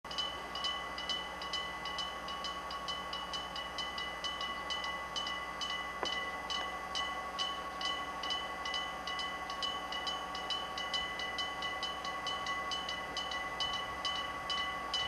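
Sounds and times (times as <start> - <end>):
electric train humming: 0.1 - 15.0.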